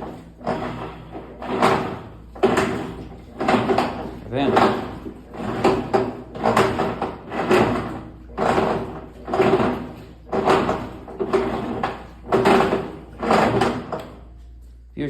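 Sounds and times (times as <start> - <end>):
washing machine agitator noise: 0.0 - 14.7.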